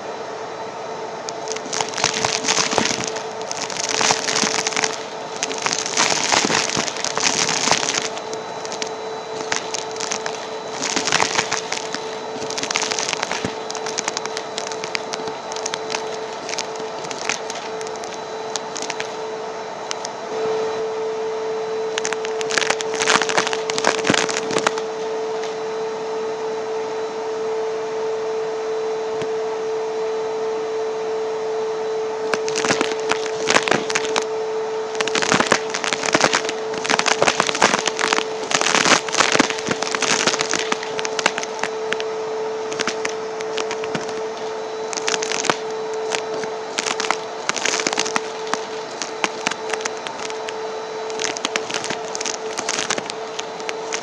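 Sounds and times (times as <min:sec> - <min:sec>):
vacuum cleaner motor running: 0:00.0 - 0:54.0
brush scratching and crackling: 0:01.3 - 0:20.2, 0:21.9 - 0:25.6, 0:32.2 - 0:34.3, 0:34.9 - 0:54.0.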